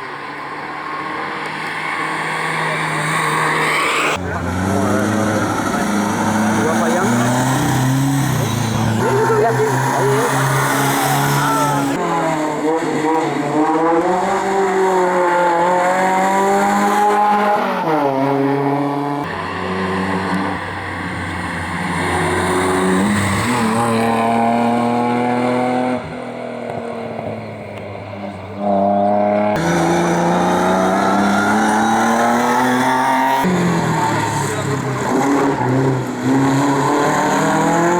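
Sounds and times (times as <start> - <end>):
racing car engines accelerating: 0.0 - 37.9.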